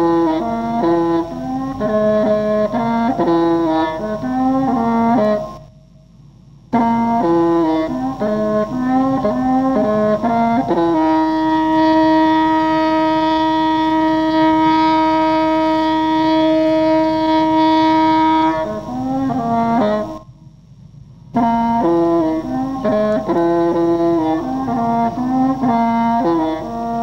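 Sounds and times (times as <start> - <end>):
solo reedy wind instrument: 0.0 - 27.0.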